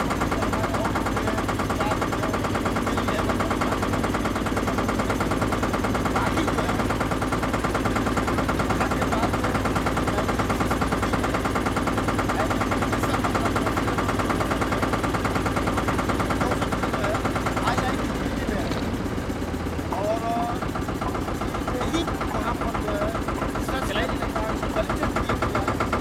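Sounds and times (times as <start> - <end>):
boat engine chugging: 0.0 - 26.0.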